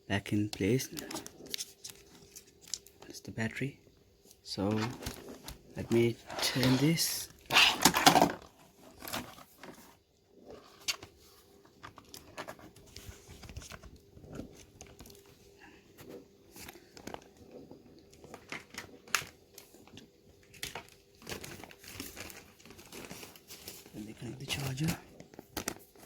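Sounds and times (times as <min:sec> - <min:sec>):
crinkly rustles: 0:00.6 - 0:03.6, 0:04.2 - 0:26.0.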